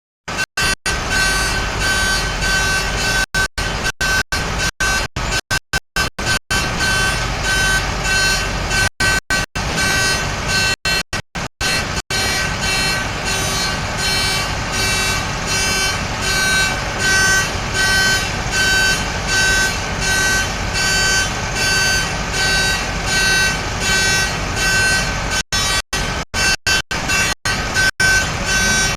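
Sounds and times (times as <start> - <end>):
truck engine running: 0.2 - 28.9
truck reversing alarm beeping: 0.3 - 28.9.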